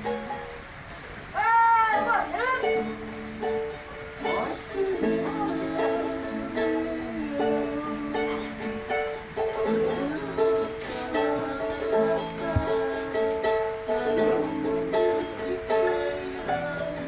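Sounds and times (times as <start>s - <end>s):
acoustic guitar playing: 0.0s - 0.8s, 1.5s - 17.0s
ukulele playing: 0.0s - 17.0s.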